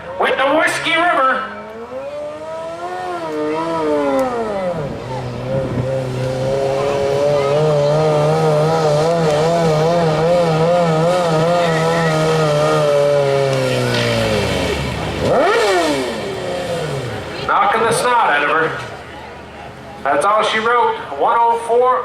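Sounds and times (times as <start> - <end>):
lawn tractor engine revving: 0.2 - 18.8.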